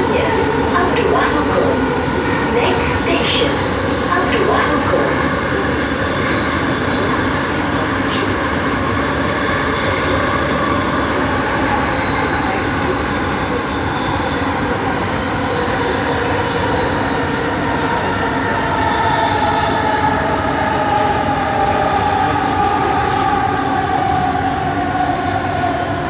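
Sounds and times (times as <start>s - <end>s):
train running with high whine: 0.0s - 26.0s.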